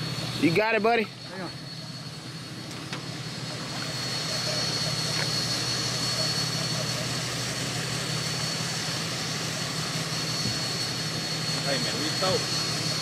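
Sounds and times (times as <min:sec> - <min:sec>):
high constant whine: 0:00.0 - 0:13.0
mechanical hum: 0:00.0 - 0:13.0.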